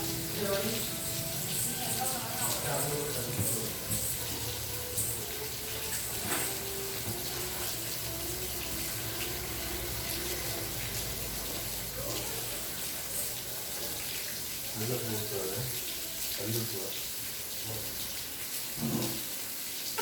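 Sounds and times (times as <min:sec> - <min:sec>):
rain falling: 0:00.0 - 0:20.0
water drips ticking: 0:00.0 - 0:20.0.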